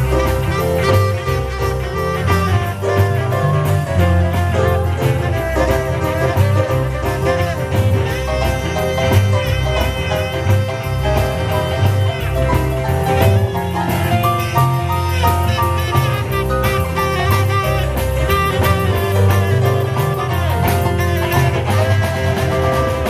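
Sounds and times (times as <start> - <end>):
band playing instrumental: 0.0 - 23.0
bass line: 0.0 - 23.0
drum kit: 0.0 - 23.0
melodic lead with bending notes: 0.0 - 23.0.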